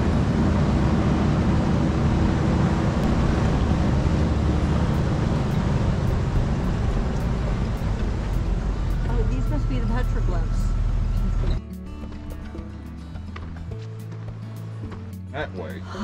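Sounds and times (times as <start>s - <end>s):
vehicle engine and tyres rumbling: 0.0s - 16.0s.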